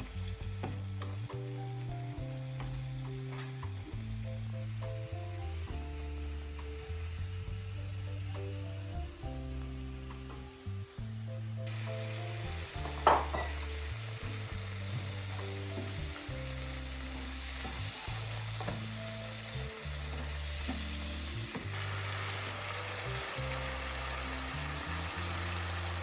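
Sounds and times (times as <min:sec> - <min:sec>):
food sizzling in a pan: 0:00.0 - 0:26.0
soft background music: 0:00.0 - 0:26.0.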